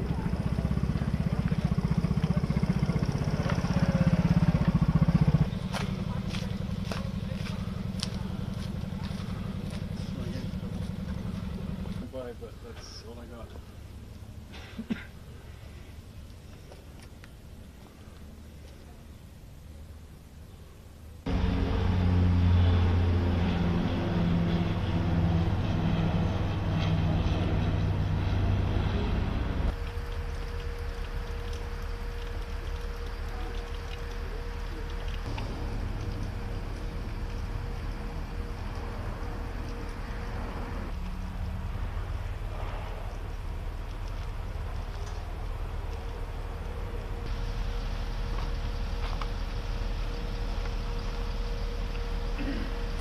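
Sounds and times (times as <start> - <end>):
vehicle engine running: 0.0 - 12.2, 21.2 - 53.0.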